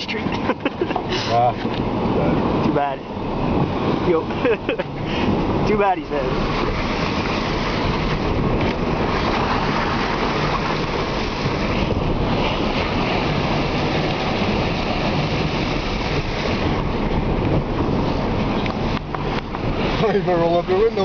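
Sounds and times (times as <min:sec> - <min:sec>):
water splashing against car tyres: 0:00.0 - 0:21.0.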